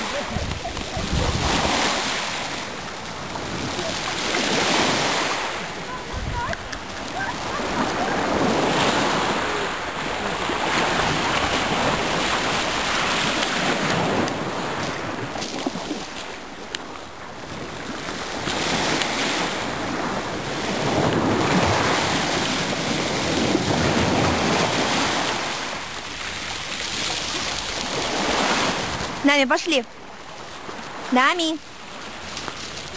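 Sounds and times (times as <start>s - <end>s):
waves washing on pebble shore: 0.0s - 32.9s
wind gusting across microphone: 0.0s - 32.9s.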